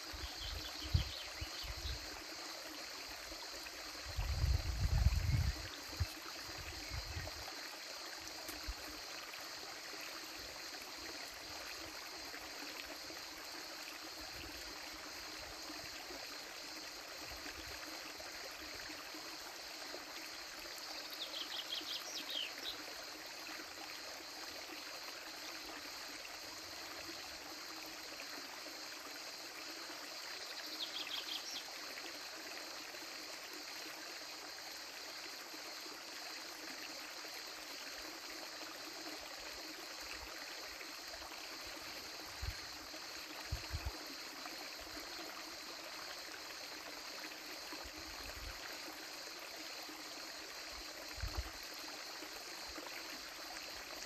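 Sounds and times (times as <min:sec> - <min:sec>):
crickets chirring: 0:00.0 - 0:54.0
stream trickling over rocks: 0:00.0 - 0:54.0.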